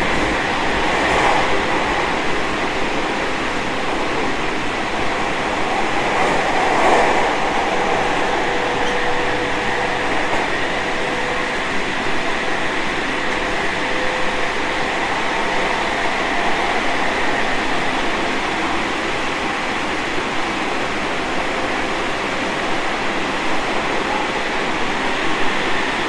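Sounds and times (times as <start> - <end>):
train wheels and air rushing: 0.0 - 26.0.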